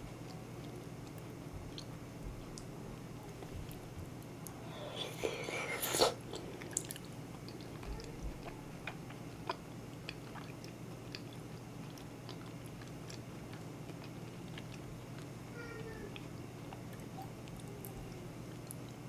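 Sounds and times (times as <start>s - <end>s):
chewing soft food: 0.0s - 19.0s
faint steady hum: 0.0s - 19.0s.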